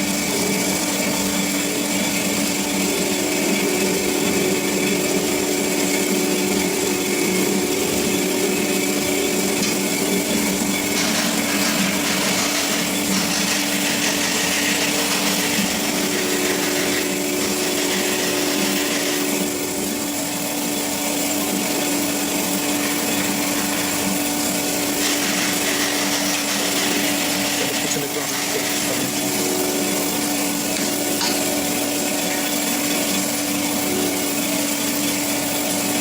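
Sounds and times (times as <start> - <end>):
band saw cutting metal: 0.0 - 36.0
motor hum: 0.0 - 36.0.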